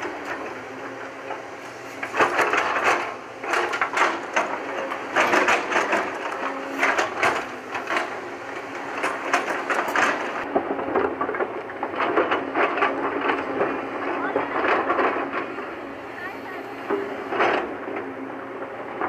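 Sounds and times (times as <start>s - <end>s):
engine humming: 0.0s - 19.0s
excavator bucket scraping soil: 0.0s - 19.0s
rocks and gravel clattering: 1.6s - 19.0s.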